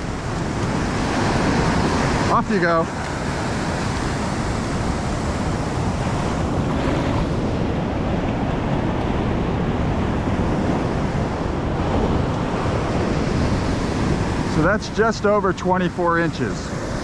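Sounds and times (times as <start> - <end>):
heavy surf breaking on beach: 0.0 - 17.0
wind buffeting microphone: 0.0 - 17.0.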